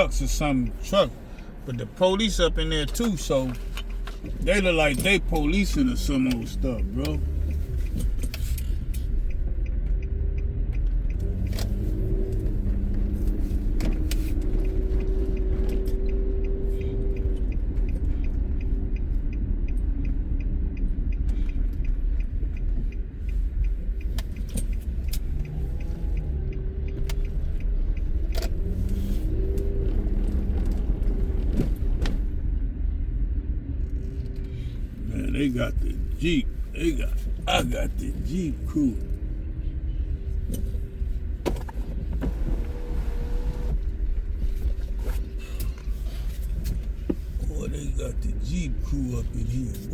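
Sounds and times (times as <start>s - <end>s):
engine hum: 0.0s - 49.9s
road rumble inside car: 0.0s - 49.9s.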